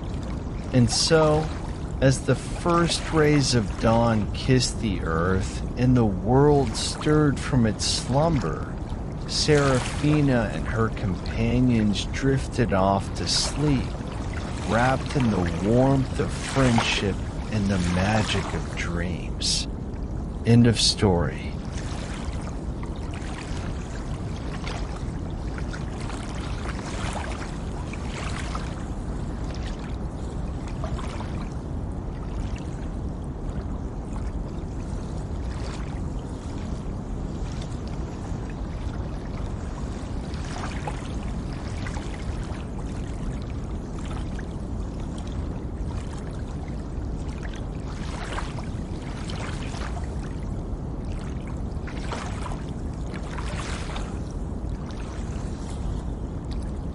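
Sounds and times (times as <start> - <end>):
gentle water sounds: 0.0 - 56.9
soft water splashes: 0.0 - 56.9
steady pink noise: 0.0 - 56.9.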